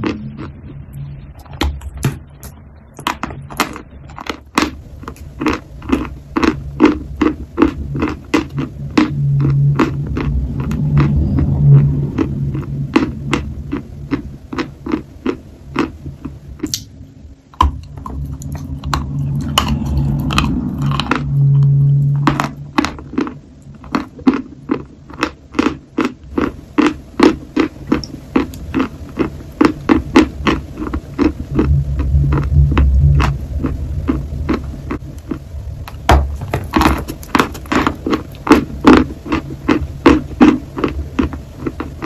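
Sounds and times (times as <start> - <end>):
low hum: 0.0 - 42.0.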